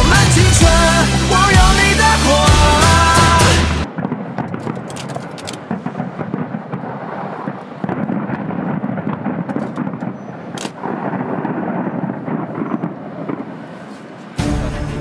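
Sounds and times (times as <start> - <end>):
fireworks cracking: 0.0 - 15.0.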